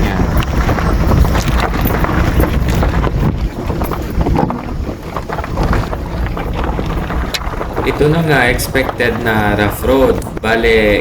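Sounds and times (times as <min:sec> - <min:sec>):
car tyres rumbling on rough road: 0:00.0 - 0:11.0
stones knocking: 0:00.0 - 0:11.0
wind buffeting microphone: 0:00.0 - 0:11.0.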